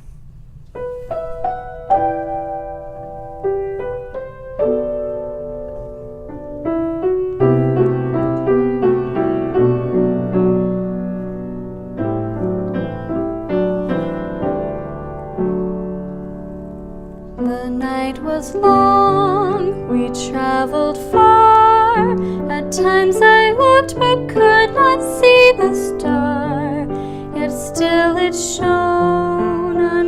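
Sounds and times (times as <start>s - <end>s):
slow acoustic piano: 0.0s - 30.0s.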